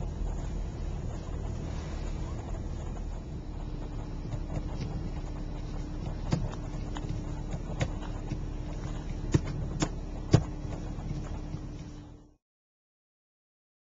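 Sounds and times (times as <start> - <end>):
car engine and road noise: 0.0 - 12.4
faint hum: 0.0 - 12.4.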